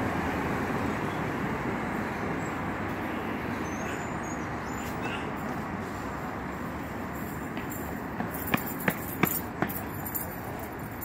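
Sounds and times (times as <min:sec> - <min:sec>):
passing cars rushing: 0:00.0 - 0:11.0.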